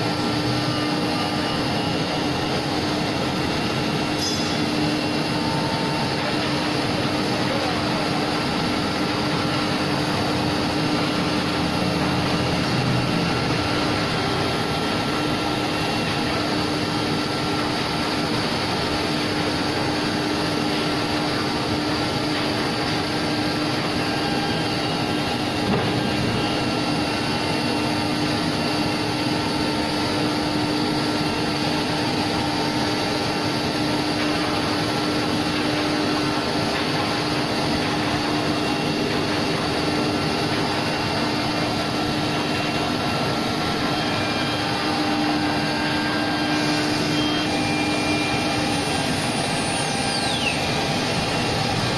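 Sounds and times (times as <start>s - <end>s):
router spindle whine: 0.0s - 51.9s.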